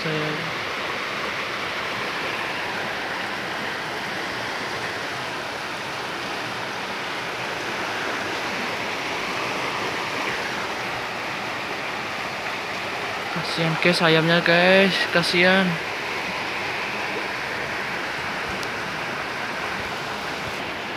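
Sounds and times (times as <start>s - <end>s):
floodwater rushing: 0.0s - 20.9s.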